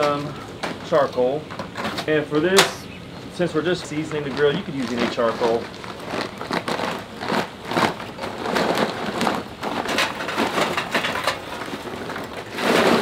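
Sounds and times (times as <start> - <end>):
charcoal rattling into metal chimney: 0.0 - 13.0.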